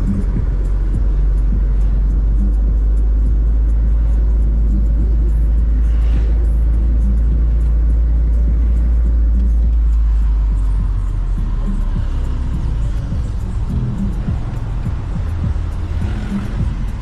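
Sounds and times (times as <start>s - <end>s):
faint music: 0.0s - 17.0s
vehicle rumble from inside: 0.0s - 17.0s.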